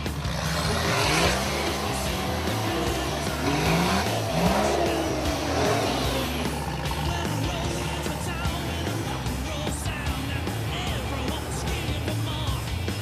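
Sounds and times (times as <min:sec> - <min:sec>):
background music: 0:00.0 - 0:13.0
engine revving: 0:00.0 - 0:13.0.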